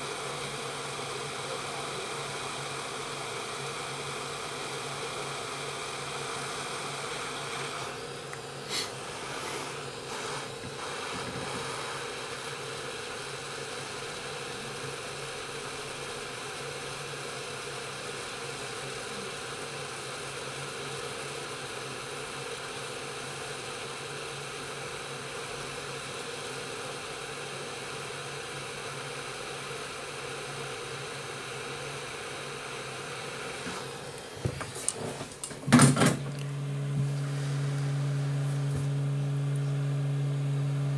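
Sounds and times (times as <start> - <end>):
hot air station blowing: 0.0 - 40.9.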